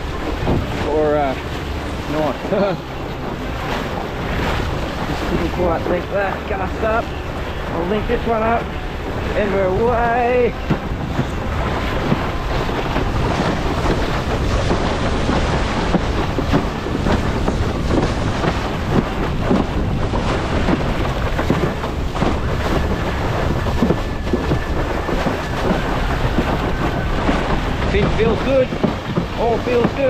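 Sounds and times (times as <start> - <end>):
rushing water: 0.0 - 30.0
water slapping against board: 0.0 - 30.0
wind buffeting microphone: 0.0 - 30.0.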